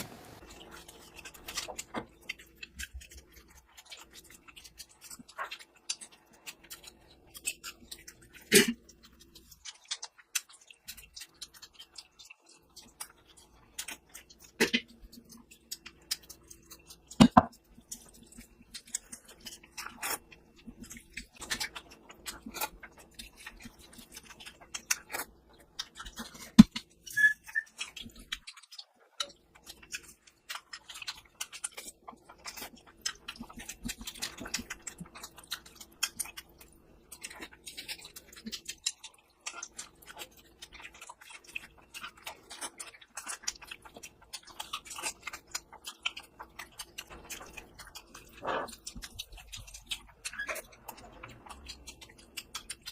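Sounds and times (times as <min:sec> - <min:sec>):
chewing with wet mouth clicks: 0:00.4 - 0:52.9.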